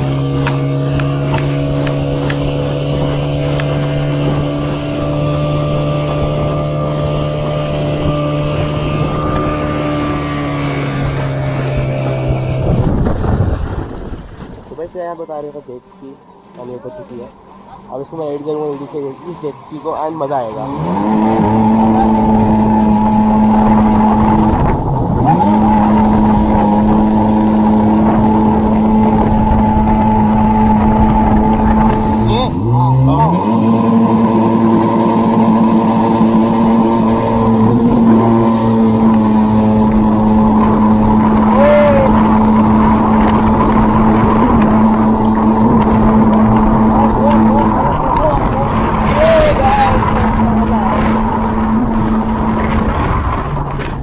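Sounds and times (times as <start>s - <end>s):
wind noise: 0.0s - 15.2s, 18.5s - 32.8s, 33.4s - 54.0s
motorboat engine running: 0.0s - 54.0s
water rushing: 0.0s - 54.0s.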